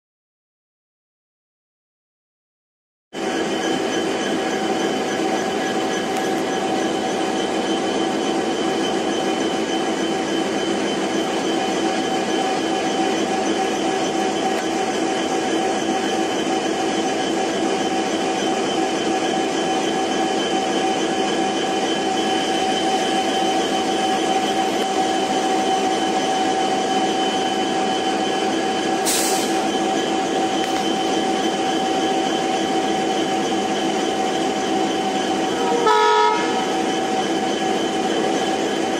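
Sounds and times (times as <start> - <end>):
train locomotive humming: 3.2 - 38.9.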